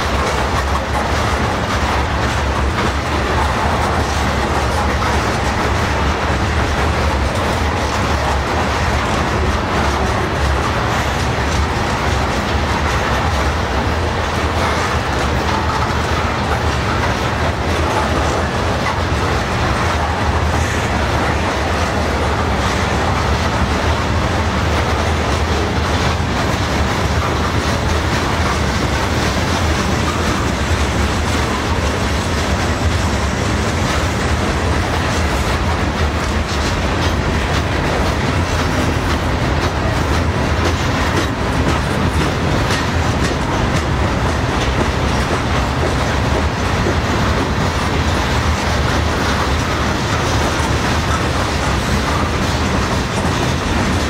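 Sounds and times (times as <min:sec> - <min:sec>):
steel wheels rolling on rails: 0:00.0 - 0:54.0.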